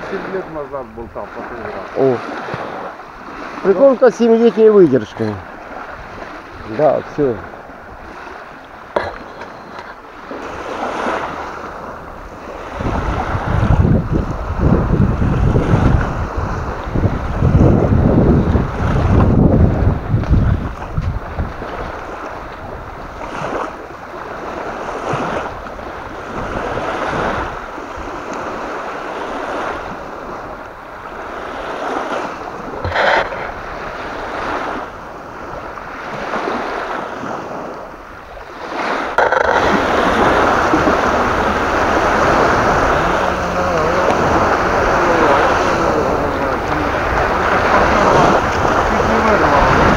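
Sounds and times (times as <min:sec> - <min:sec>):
waves lapping at shore: 0:00.0 - 0:49.9
gusty wind on microphone: 0:05.1 - 0:49.9.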